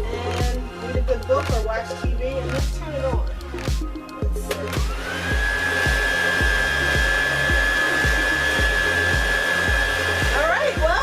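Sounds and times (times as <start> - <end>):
hair dryer running: 0.0 - 11.0
regular low beat: 0.0 - 11.0.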